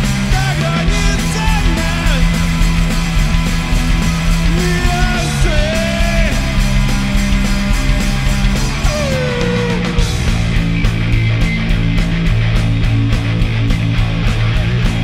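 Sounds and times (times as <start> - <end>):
distorted guitars and bass: 0.0 - 15.0
steady drumbeat: 0.0 - 15.0.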